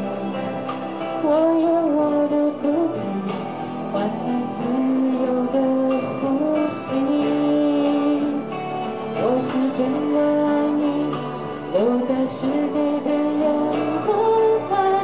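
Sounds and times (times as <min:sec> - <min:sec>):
karaoke backing music: 0:00.0 - 0:15.0
woman singing into a microphone: 0:01.0 - 0:15.0.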